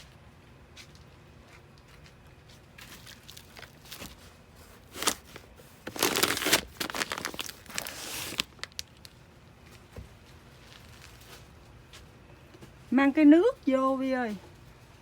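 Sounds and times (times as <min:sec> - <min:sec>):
crinkling and rustling: 0:00.8 - 0:15.0.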